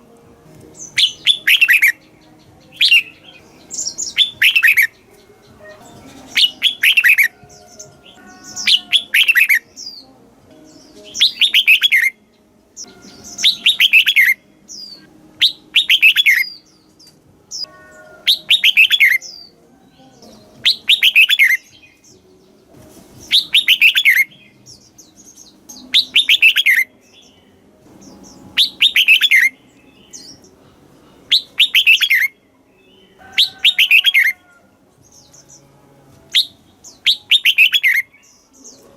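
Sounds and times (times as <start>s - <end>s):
bulbul singing whistled phrases: 0.7s - 10.1s, 10.7s - 12.2s, 12.8s - 22.4s, 23.2s - 30.5s, 31.3s - 34.4s, 36.3s - 38.9s.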